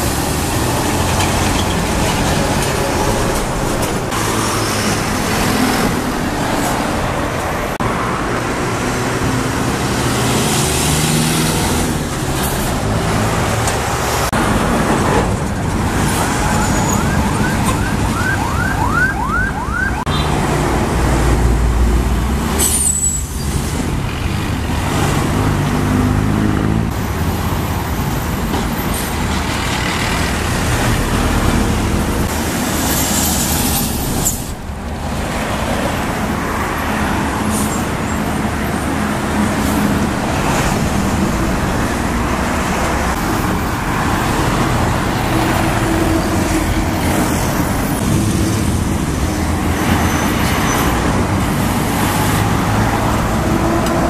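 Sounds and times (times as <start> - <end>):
buses driving past: 0.0 - 54.0
traffic noise: 0.0 - 54.0.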